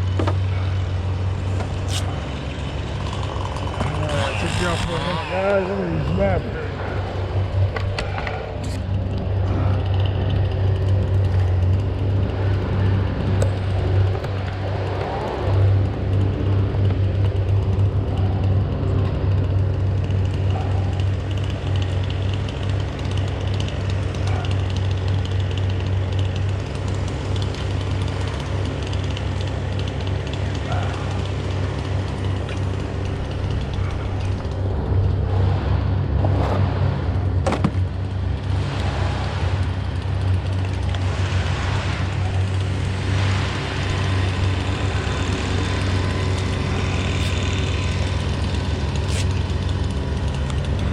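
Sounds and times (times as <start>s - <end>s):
engine humming: 0.0s - 50.9s.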